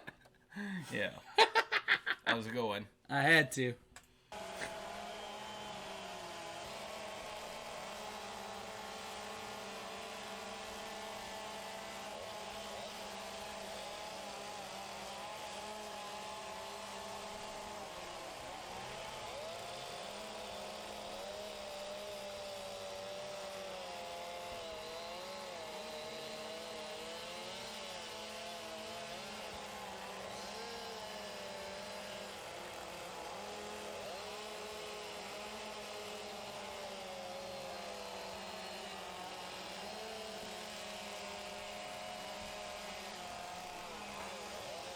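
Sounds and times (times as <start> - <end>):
chainsaws cutting wood: 4.2 - 44.9.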